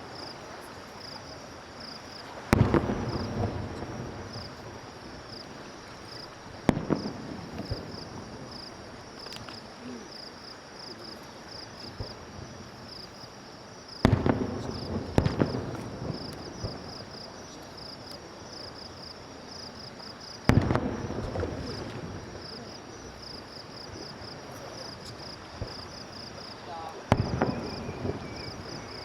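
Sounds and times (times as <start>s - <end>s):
fireworks booming: 0.0s - 13.2s, 13.9s - 19.1s, 20.3s - 29.0s
fireworks crackling: 0.0s - 29.0s
insects trilling: 0.0s - 29.0s.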